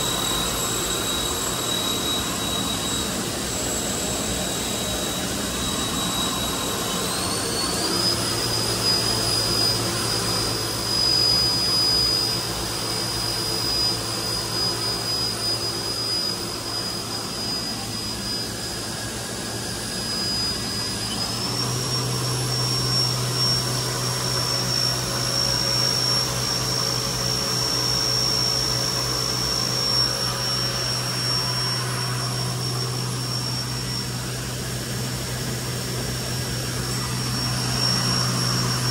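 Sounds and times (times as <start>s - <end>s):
machine spindle whine: 0.0s - 38.9s.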